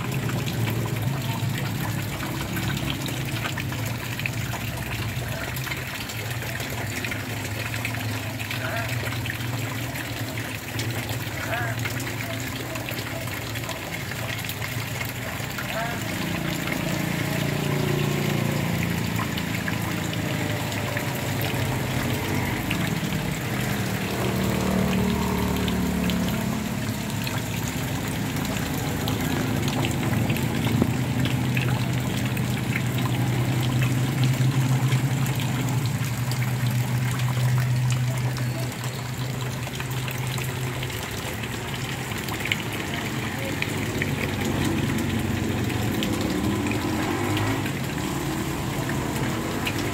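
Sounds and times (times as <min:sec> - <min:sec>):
rain falling on water: 0:00.0 - 0:49.9.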